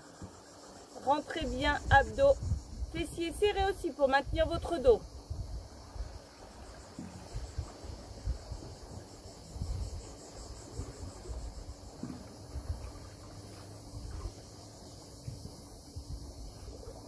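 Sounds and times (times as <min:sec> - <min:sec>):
insects chirring: 0:00.0 - 0:17.0
wind rumble on microphone: 0:01.2 - 0:17.0.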